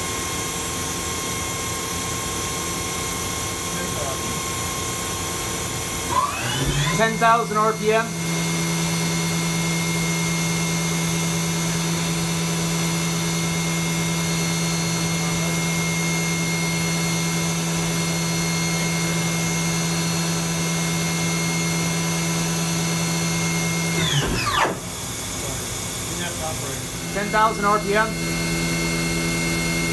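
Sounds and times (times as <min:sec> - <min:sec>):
mill spindle whine: 0:00.0 - 0:29.9.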